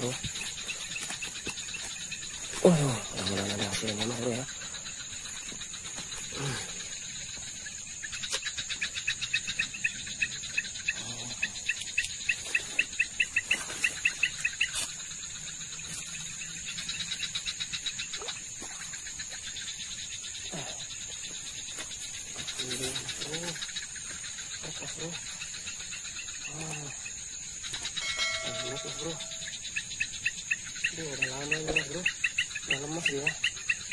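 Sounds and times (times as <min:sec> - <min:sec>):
cricket drone: 0:00.0 - 0:33.9
insect chirping call: 0:00.0 - 0:33.9.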